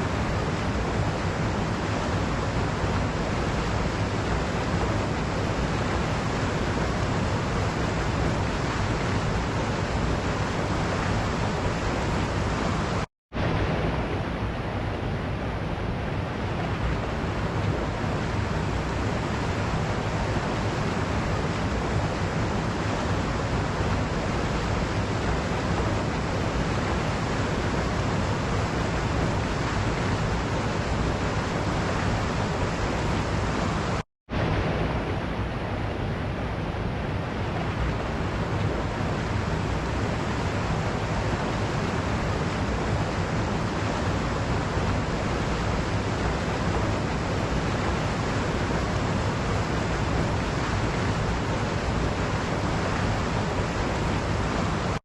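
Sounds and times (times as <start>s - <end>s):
waterfall rushing: 0.0s - 14.6s, 16.2s - 36.5s, 37.2s - 55.0s.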